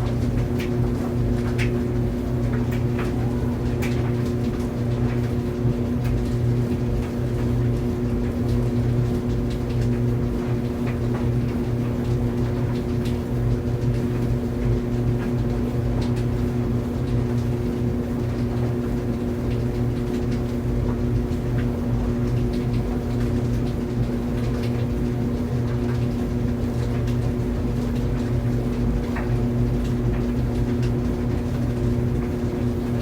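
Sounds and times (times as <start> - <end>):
clothes dryer humming: 0.0 - 33.0.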